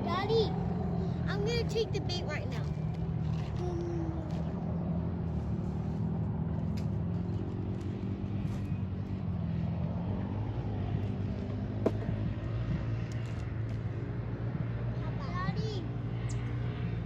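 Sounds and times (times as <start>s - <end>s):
low motor drone: 0.0s - 17.0s.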